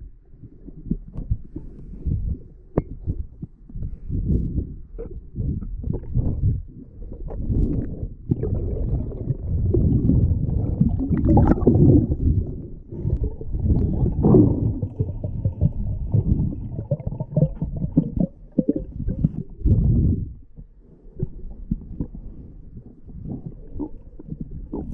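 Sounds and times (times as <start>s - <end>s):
underwater rumbling and gurgling: 0.0s - 24.9s.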